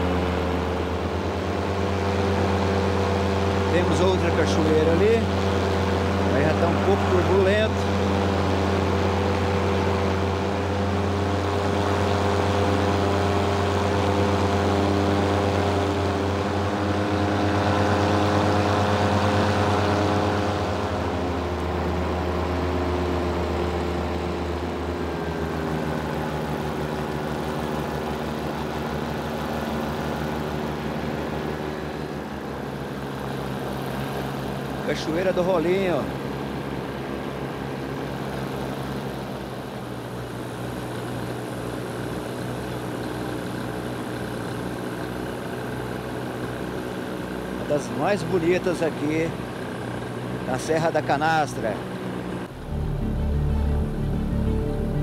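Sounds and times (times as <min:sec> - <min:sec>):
paramotor engine droning: 0:00.0 - 0:55.0.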